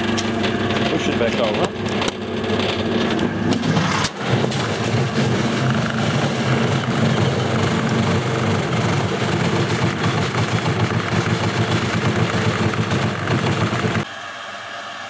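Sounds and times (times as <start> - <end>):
unbalanced load clattering and banging: 0.0 - 14.0
washing machine motor turning drum: 0.0 - 14.1
steady machine hum: 0.0 - 15.0.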